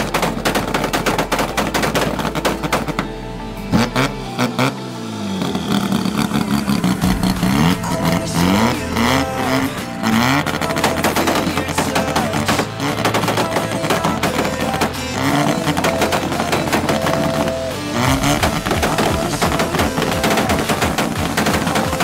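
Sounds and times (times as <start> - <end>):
exhaust crackling pops: 0.0 - 4.6, 5.4 - 22.0
car engine revving: 0.0 - 22.0.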